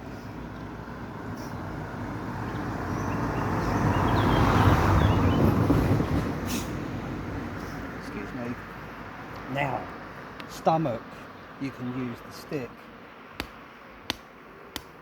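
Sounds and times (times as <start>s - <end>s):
vehicle passing by: 0.0s - 12.4s.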